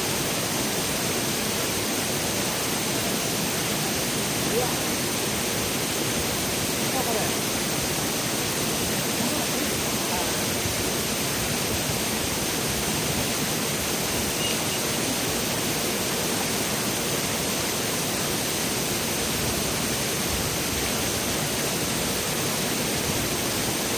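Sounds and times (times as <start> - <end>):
mountain stream rushing: 0.0 - 23.9.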